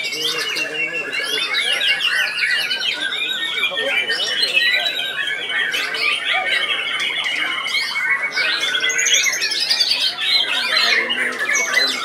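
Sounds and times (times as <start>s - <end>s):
birds singing whistles and trills: 0.0s - 12.0s.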